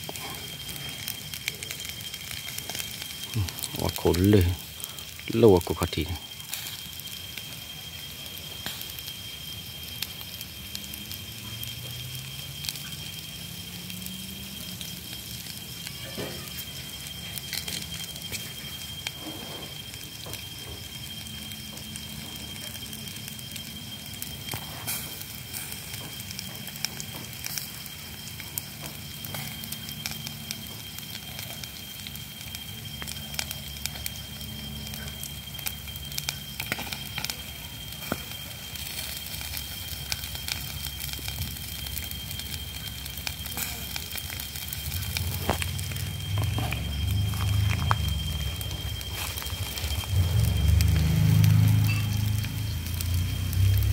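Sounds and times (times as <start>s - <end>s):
charcoal fire crackling and popping: 0.0s - 53.9s
high-pitched whine: 0.0s - 53.9s.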